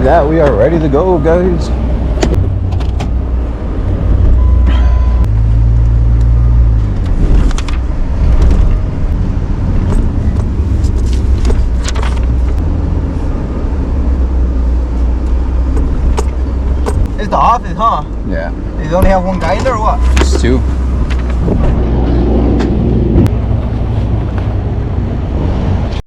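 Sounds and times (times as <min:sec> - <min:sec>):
truck engine rumbling: 0:00.0 - 0:26.0.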